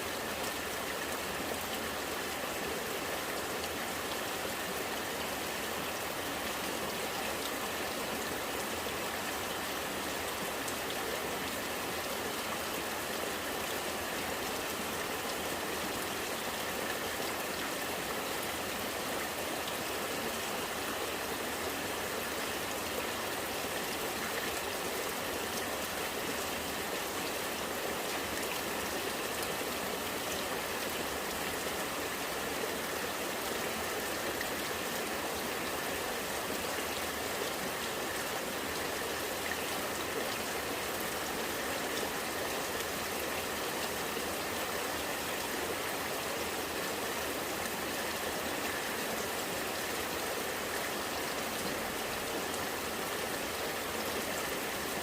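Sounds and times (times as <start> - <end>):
rainwater running and gurgling: 0.0 - 55.0.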